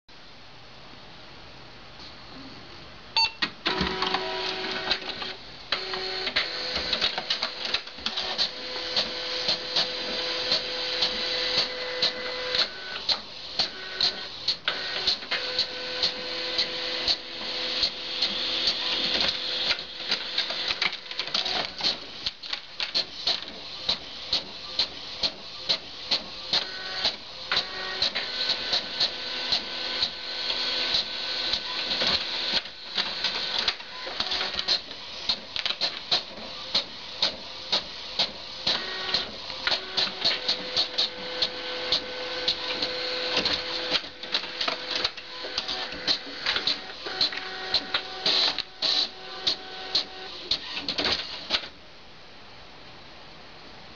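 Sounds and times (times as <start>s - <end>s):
printer whining tones: 3.2s - 51.6s
printer mechanical clicks: 3.4s - 30.2s, 30.9s - 51.8s
printer motor whir: 3.6s - 51.8s.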